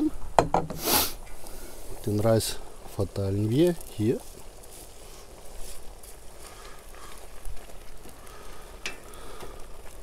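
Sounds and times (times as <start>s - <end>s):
rice simmering: 0.0s - 10.0s.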